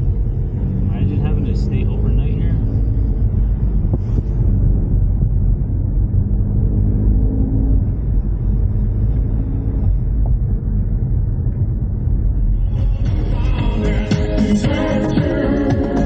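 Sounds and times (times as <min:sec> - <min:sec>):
car engine and road noise: 0:00.0 - 0:16.0
faint engine drone: 0:00.0 - 0:16.0.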